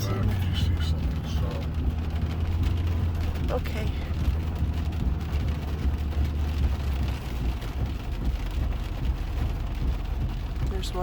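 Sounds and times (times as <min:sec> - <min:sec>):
car driving on wet road: 0:00.0 - 0:11.0
rain hiss: 0:00.0 - 0:11.0.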